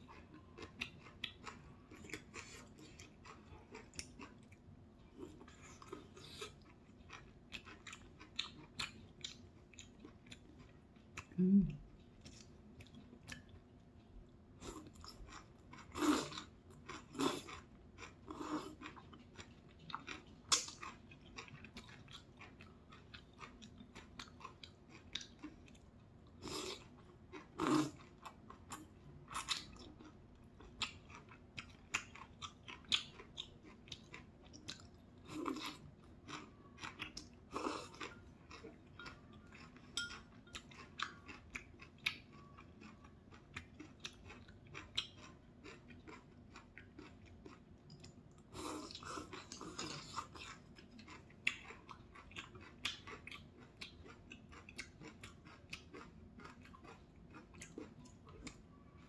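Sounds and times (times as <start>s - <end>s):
wet chewing with mouth clicks: 0.0s - 58.8s.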